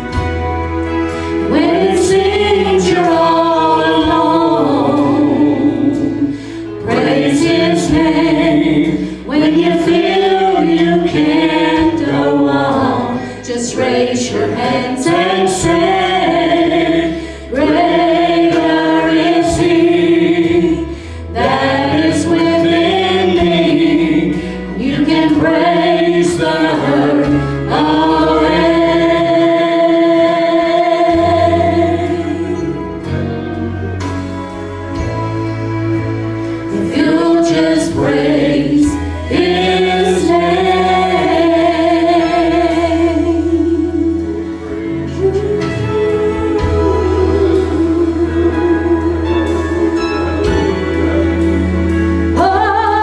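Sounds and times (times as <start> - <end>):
bass line: 0.0 - 53.0
women singing in harmony: 1.0 - 33.9, 35.8 - 53.0.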